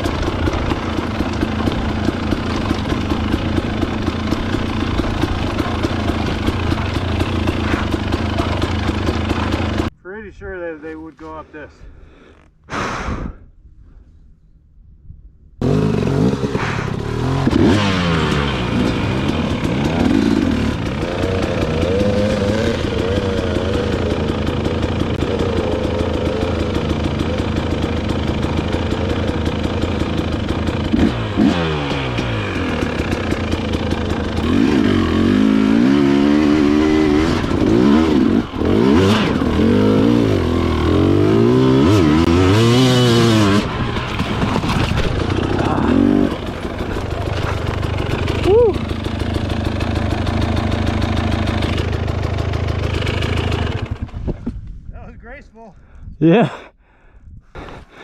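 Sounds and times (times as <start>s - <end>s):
dirt bike engine revving: 0.0s - 9.9s, 15.6s - 54.2s.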